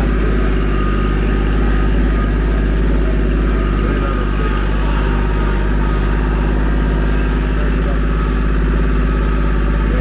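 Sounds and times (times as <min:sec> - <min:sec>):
small vehicle engine droning: 0:00.0 - 0:10.0.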